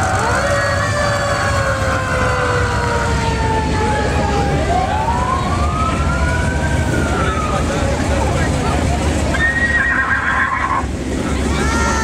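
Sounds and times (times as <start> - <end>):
fire truck siren wailing: 0.0 - 12.0
low engine rumble: 0.0 - 12.0.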